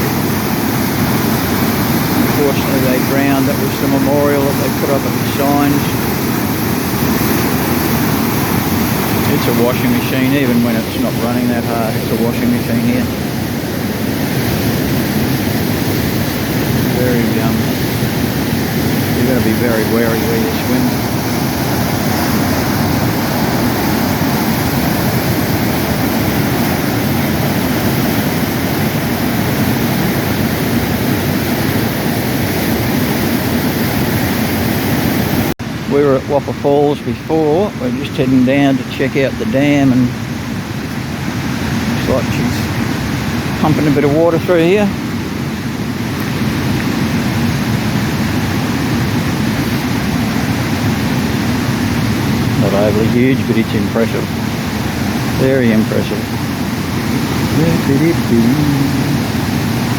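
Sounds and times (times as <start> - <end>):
floodwater rushing over falls: 0.0 - 59.9.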